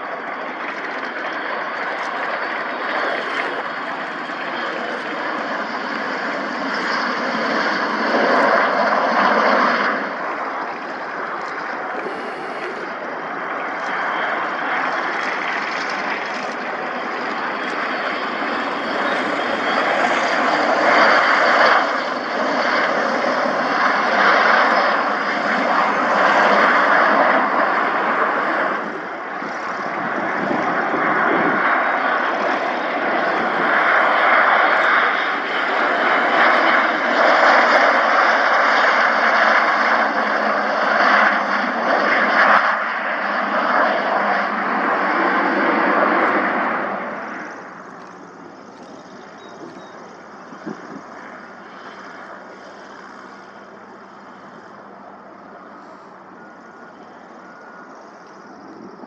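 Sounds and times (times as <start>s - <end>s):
airplane engine running: 0.0s - 59.0s.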